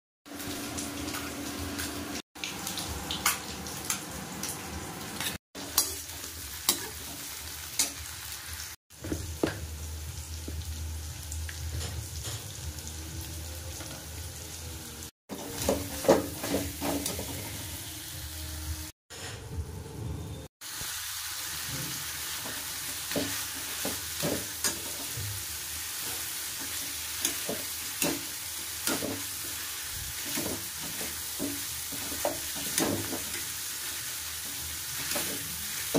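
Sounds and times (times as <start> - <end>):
food sizzling in oil: 0.2 - 19.0, 20.6 - 35.9.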